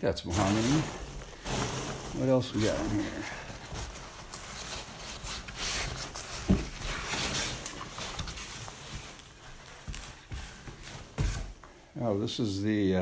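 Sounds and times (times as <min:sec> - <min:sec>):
packing peanuts rustling: 0:00.2 - 0:11.6.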